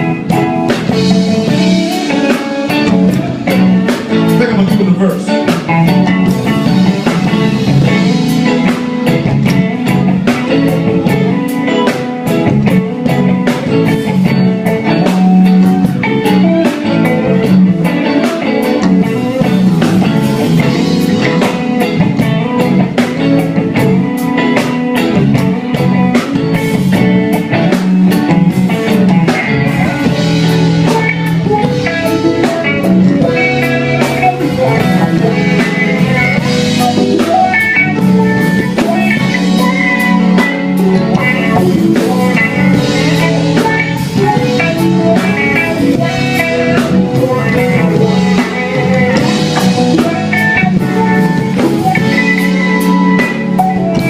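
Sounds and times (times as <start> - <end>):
drum kit beat: 0.0 - 54.0
guitar playing: 0.0 - 54.0.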